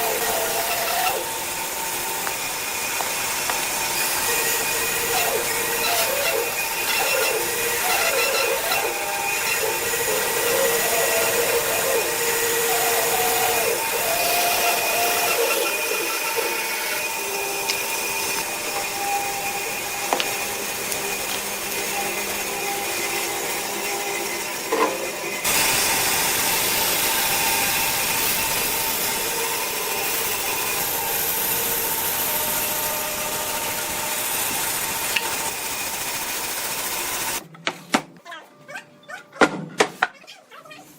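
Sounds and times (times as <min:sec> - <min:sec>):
woodworking power tool hissing: 0:00.0 - 0:37.5.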